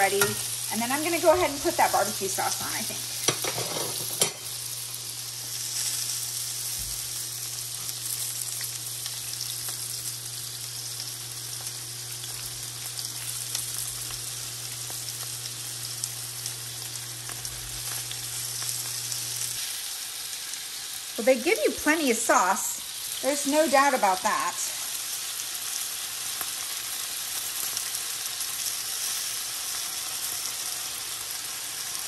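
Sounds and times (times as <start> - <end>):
patties sizzling in a skillet: 0.0 - 32.0.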